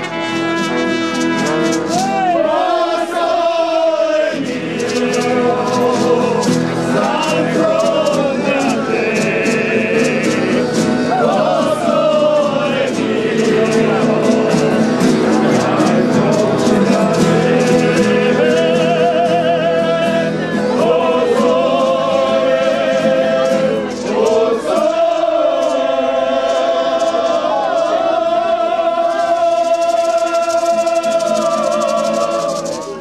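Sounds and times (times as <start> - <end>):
strummed acoustic guitar: 0.0 - 33.0
person singing: 0.7 - 33.0.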